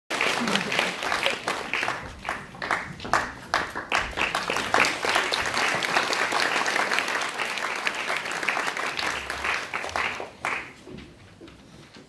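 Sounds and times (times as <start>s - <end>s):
audience applauding: 0.1s - 10.9s.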